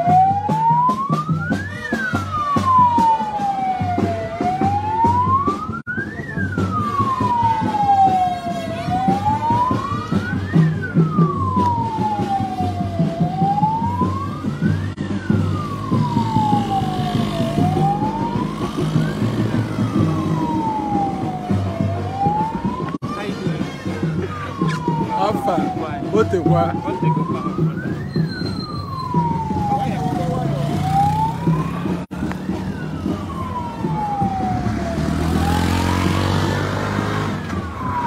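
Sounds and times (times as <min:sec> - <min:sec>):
vehicle siren wailing: 0:00.0 - 0:38.0.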